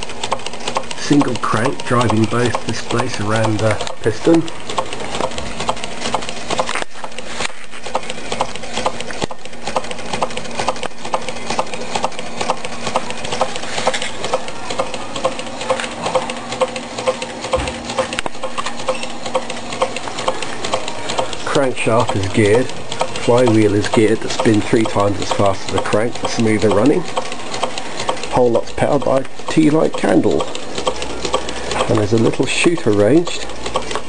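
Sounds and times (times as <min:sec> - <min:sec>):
engine mechanism clicking: 0:00.0 - 0:34.0.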